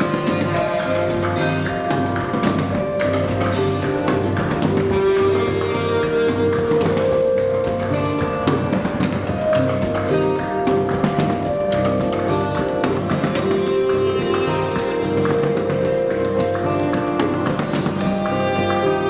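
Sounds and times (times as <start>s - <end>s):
sharp percussive taps: 0.0s - 19.0s.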